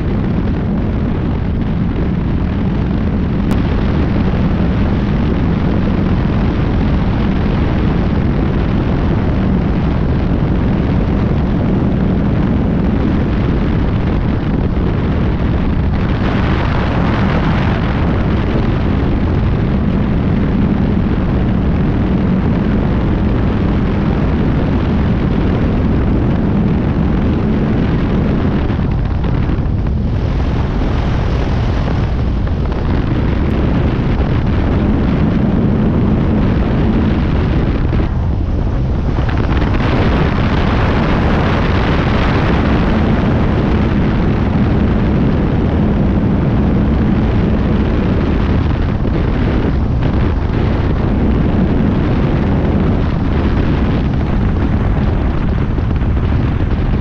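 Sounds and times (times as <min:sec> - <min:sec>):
propeller plane engine droning: 0:00.0 - 0:57.0
wind rushing over microphone: 0:00.0 - 0:57.0.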